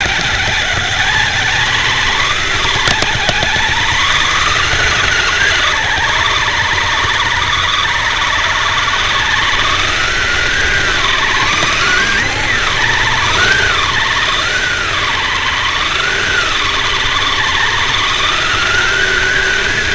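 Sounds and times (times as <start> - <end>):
electric motor and gears whining: 0.0 - 19.9.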